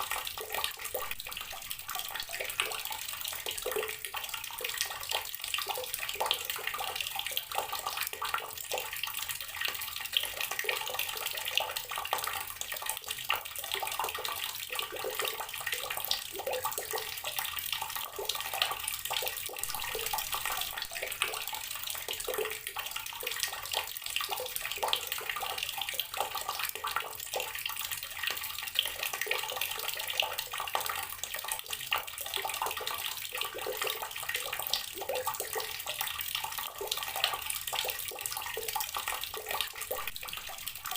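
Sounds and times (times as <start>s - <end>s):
tap water pouring into water: 0.0s - 40.9s.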